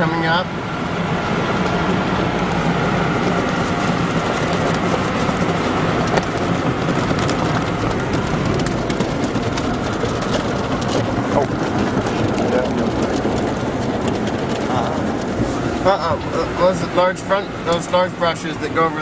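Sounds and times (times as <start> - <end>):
car wash brushes spinning: 0.0 - 19.0
water spraying: 1.1 - 19.0.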